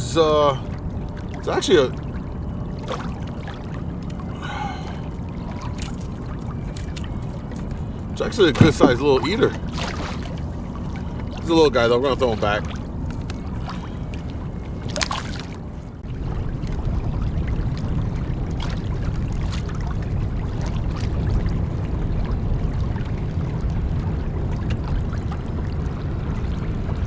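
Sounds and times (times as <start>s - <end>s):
water against kayak hull: 0.0s - 27.0s.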